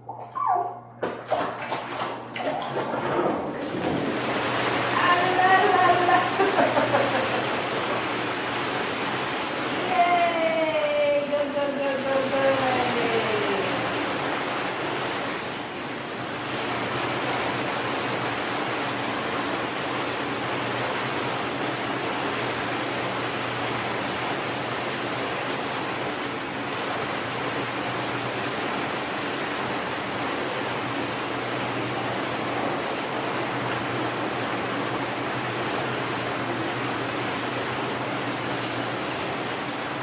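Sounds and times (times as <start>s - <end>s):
water running into bath: 0.0s - 40.0s.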